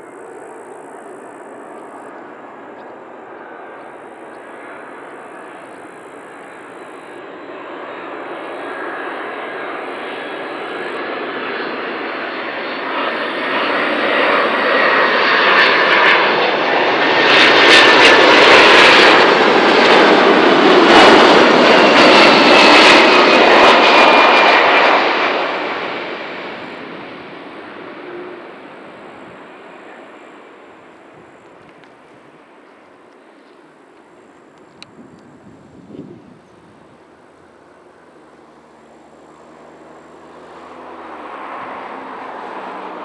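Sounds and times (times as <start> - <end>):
jet engines on approach: 0.0 - 43.0.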